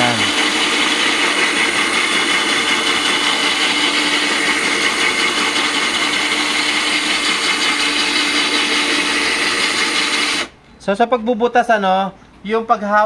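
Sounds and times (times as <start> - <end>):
drill with hole saw grinding glass: 0.0 - 10.5.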